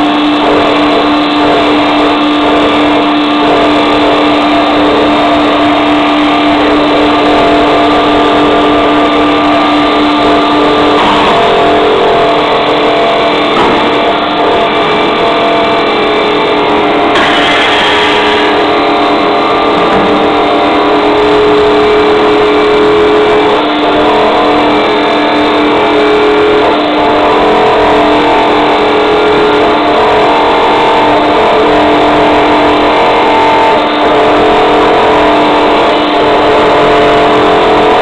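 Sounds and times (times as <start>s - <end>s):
constant machine tone: 0.0s - 38.0s
machine mechanical drone: 0.0s - 38.0s.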